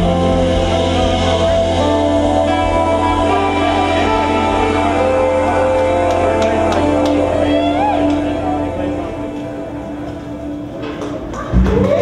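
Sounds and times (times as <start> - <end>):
jazz fusion band playing: 0.0 - 11.9.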